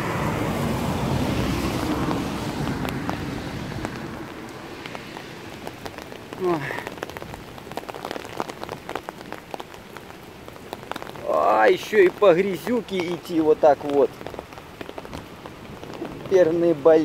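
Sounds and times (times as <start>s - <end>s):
rain tapping on umbrella: 0.1s - 17.0s.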